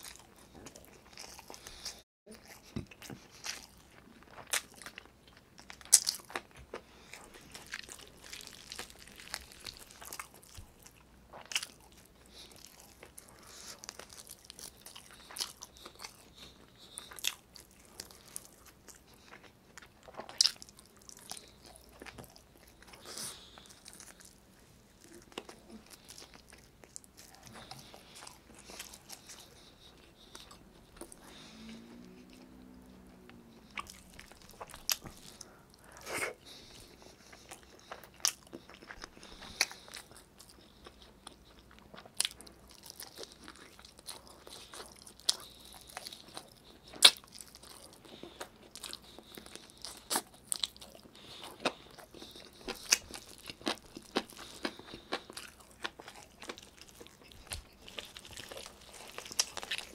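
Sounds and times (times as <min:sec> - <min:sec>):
chewing with wet mouth clicks: 0:00.0 - 0:24.4, 0:25.0 - 0:59.9.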